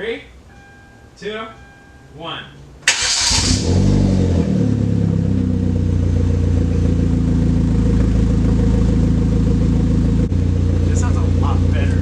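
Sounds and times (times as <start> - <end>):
car engine idling: 0.3 - 12.0.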